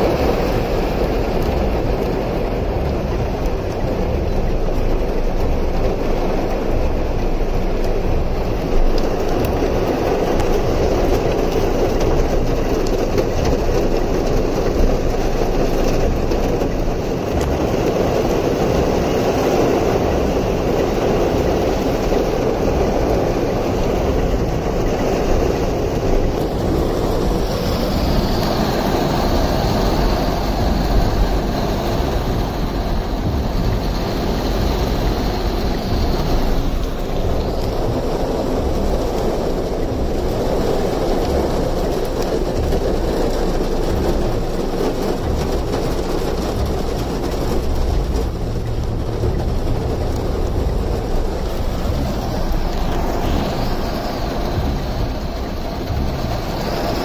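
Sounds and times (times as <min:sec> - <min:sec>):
floodwater rushing: 0:00.0 - 0:57.0
heavy rain pouring: 0:00.0 - 0:57.0.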